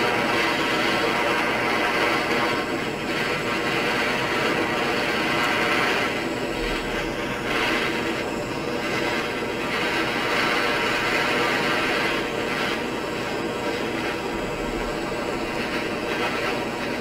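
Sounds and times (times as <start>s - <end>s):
blow torch flame: 0.0s - 17.0s.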